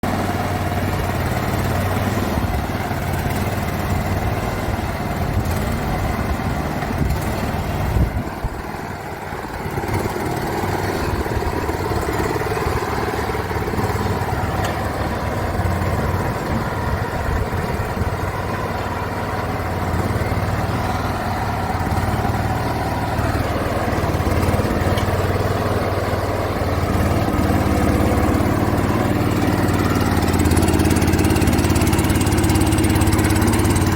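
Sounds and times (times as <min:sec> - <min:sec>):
road roller engine idling: 0:00.0 - 0:33.9.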